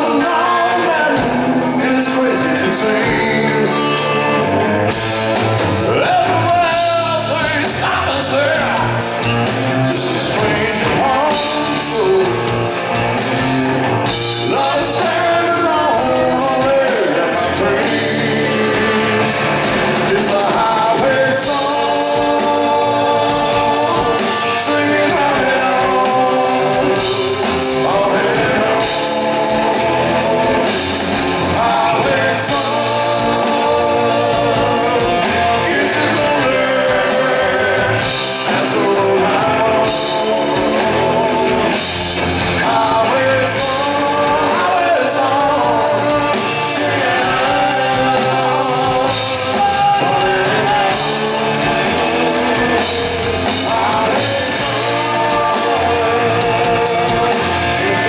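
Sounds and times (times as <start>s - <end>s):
bass guitar: 0.0s - 58.0s
drums with cymbals: 0.0s - 58.0s
electric guitars: 0.0s - 58.0s.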